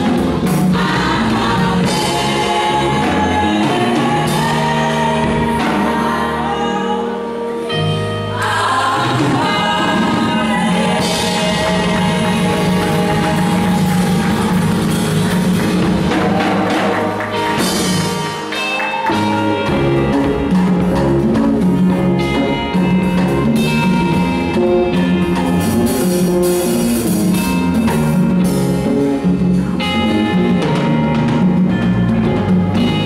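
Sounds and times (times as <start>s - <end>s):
gospel band playing: 0.0s - 33.0s.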